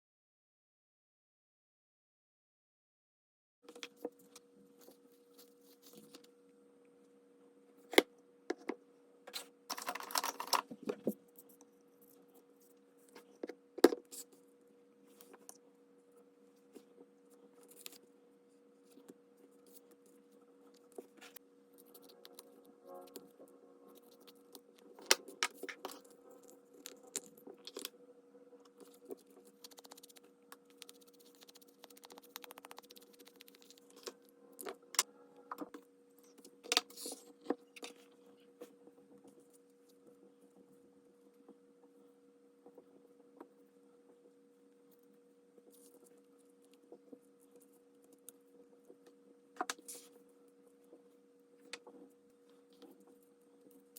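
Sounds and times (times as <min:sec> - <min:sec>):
low steady hum: 0:03.7 - 0:53.9.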